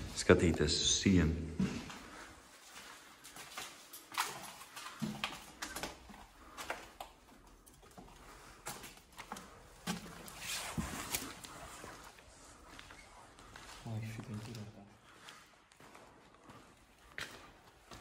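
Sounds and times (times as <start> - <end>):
footsteps crunching on debris: 0.0 - 18.0.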